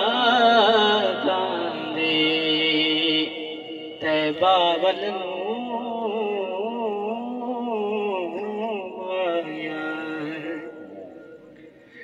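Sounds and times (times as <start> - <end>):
man singing: 0.0 - 12.0.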